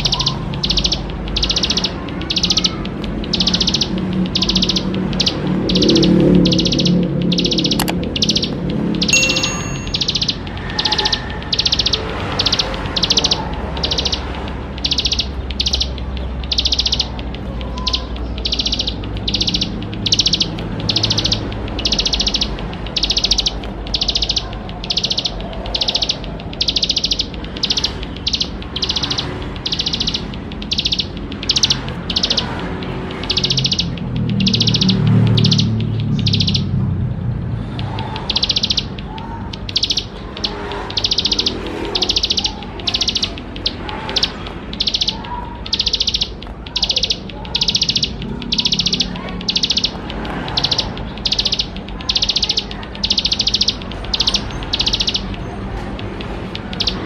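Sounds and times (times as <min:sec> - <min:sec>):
bird singing high trilled notes: 0:00.0 - 0:36.8, 0:38.1 - 0:57.0.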